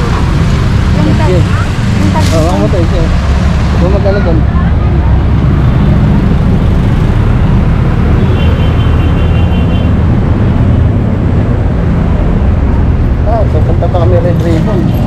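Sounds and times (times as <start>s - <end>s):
motorcycles running: 0.0s - 15.0s
truck engine: 0.0s - 15.0s.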